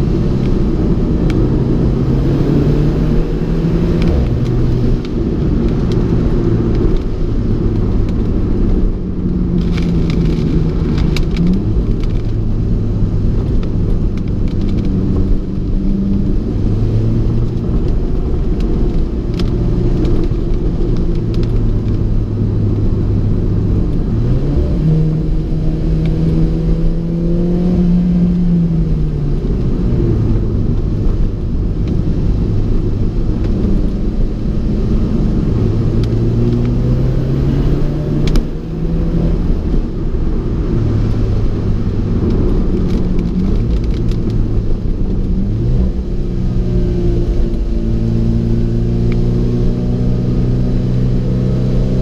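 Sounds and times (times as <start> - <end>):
car engine revving: 0.0 - 52.0
road noise: 0.0 - 52.0.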